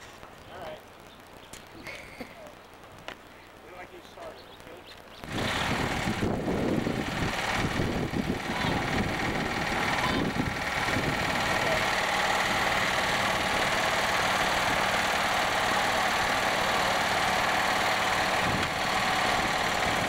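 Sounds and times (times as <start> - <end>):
garden tractor engine running: 3.4 - 20.0.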